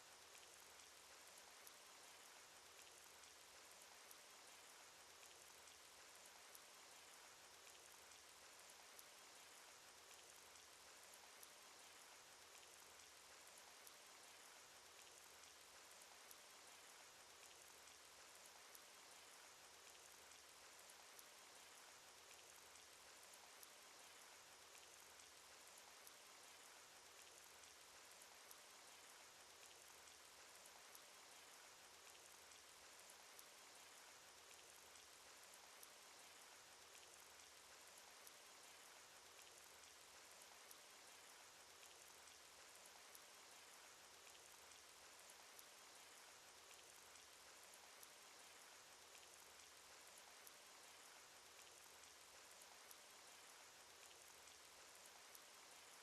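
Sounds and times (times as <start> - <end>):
raindrop ticks: 0.1 - 56.0.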